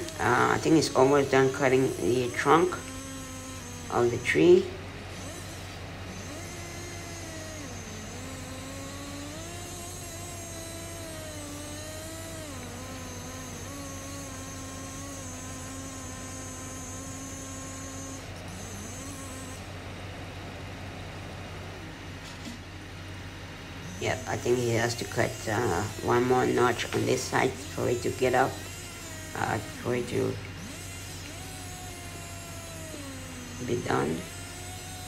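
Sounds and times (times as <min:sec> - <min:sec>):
chainsaw cutting tree trunk: 0:00.0 - 0:21.1, 0:23.6 - 0:35.0
heavy machinery engines droning: 0:00.0 - 0:35.0.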